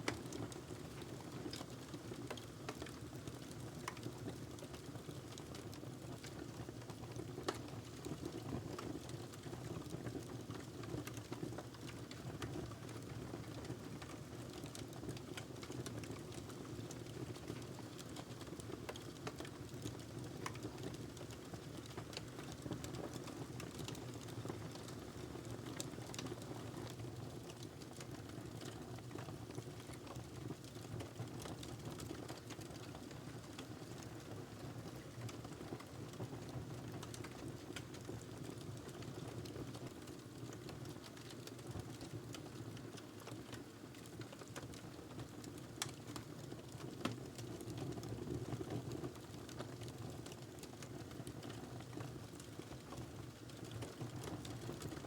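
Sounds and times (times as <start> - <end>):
wood fire crackling: 0.1 - 9.5, 10.6 - 55.0.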